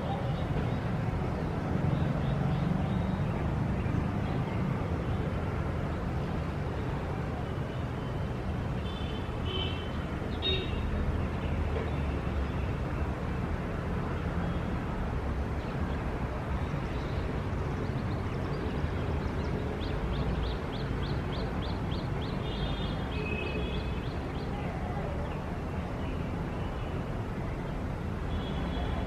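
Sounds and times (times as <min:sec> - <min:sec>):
distant traffic rumble: 0:00.0 - 0:29.0.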